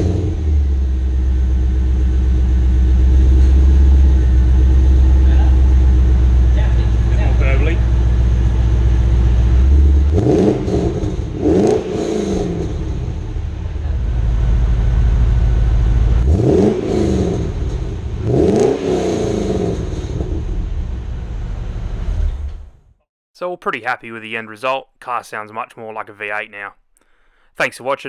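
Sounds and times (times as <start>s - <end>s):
car engine idling with deep rumble: 0.0s - 22.8s
engine revving: 0.0s - 22.8s.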